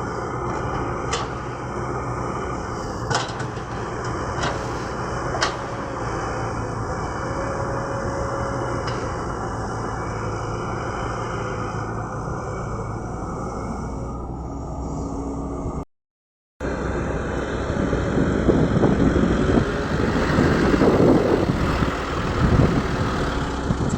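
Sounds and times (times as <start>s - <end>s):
excavator diesel engine running: 0.0s - 15.8s, 16.6s - 23.9s.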